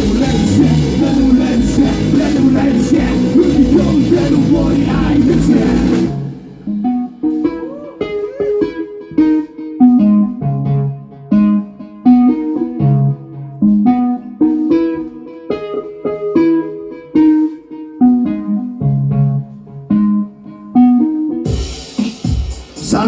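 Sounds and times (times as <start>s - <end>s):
solo guitar melody: 0.0s - 21.5s.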